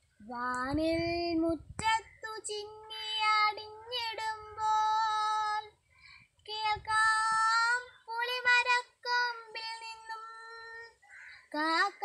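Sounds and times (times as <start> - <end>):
girl singing unaccompanied: 0.1 - 12.0.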